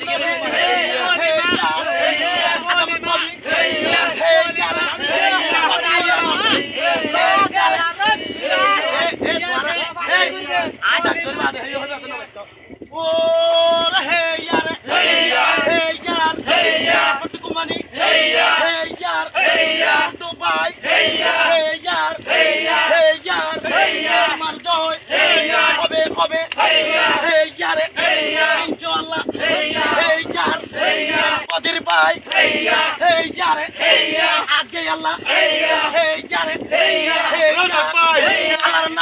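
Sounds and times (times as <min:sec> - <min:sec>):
voices singing in chorus: 0:00.0 - 0:11.5, 0:13.8 - 0:39.0.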